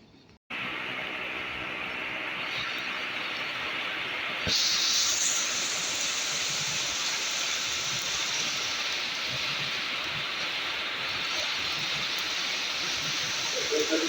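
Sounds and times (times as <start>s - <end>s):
rain: 0.5s - 14.0s
electric train hissing: 0.6s - 14.0s.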